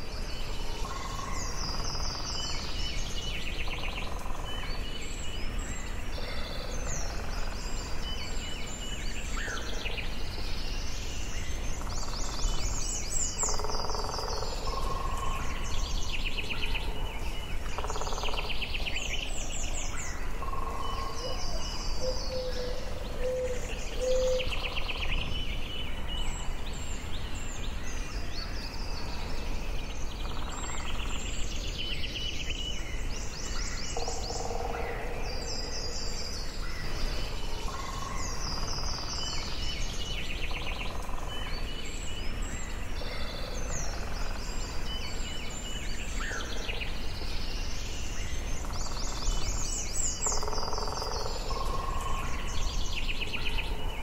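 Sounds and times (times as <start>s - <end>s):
birds singing and chirping: 0.0s - 54.0s
steady background hiss: 0.0s - 54.0s.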